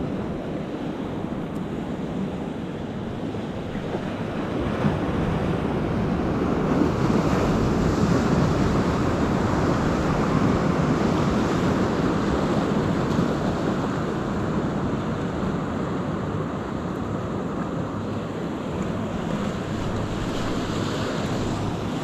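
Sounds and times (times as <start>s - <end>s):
ocean surf washing against rocks: 0.0s - 22.0s
wind buffeting microphone: 0.0s - 22.0s.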